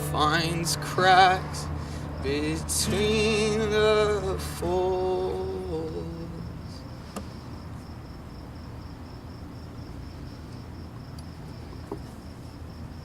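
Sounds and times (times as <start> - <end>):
acoustic song: 0.0 - 10.6
crickets chirping: 0.0 - 13.0
low background rumble: 0.0 - 13.0.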